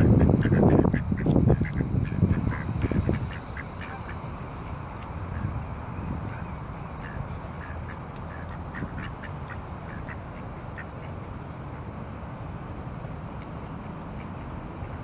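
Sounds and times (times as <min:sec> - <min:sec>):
ducks quacking: 0:00.0 - 0:05.5, 0:06.2 - 0:11.9, 0:13.8 - 0:15.0
low background rumble: 0:00.0 - 0:15.0.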